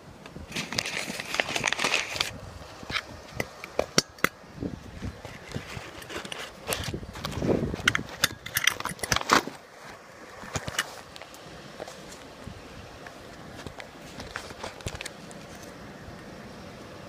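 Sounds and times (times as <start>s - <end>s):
rustling: 0.4s - 4.2s, 4.8s - 15.8s.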